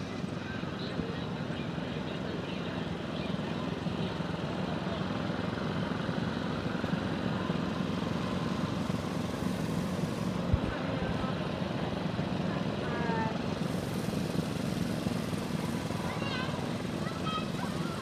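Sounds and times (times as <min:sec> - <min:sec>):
go-kart engines buzzing: 0:00.0 - 0:18.0.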